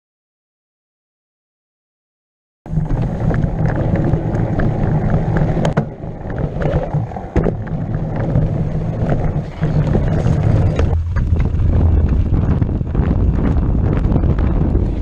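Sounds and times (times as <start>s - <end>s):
bike knocks and rattles: 2.7s - 15.0s
tyres rumbling on dirt: 2.7s - 15.0s
wind on microphone: 2.7s - 15.0s.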